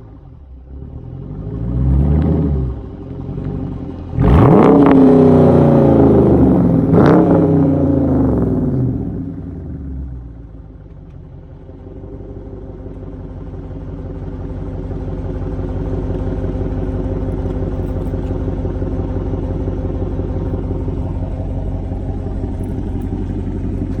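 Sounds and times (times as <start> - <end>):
car engine exhaust rumbling: 0.0 - 24.0.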